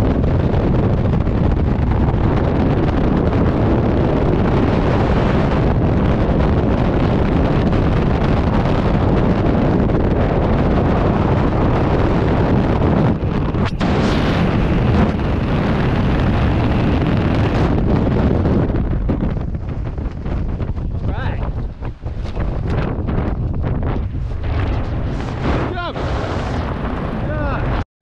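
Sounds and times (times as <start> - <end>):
wind roaring over microphone: 0.0 - 27.9.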